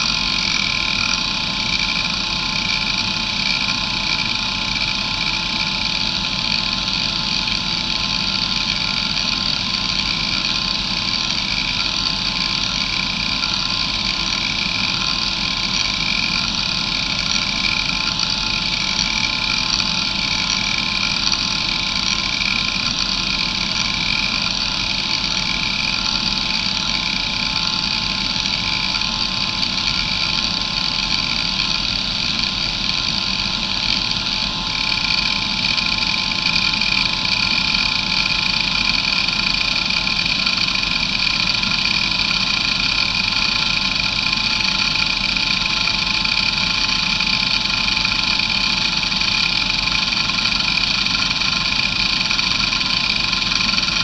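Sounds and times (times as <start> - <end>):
hard drive spinning whine: 0.0 - 54.0.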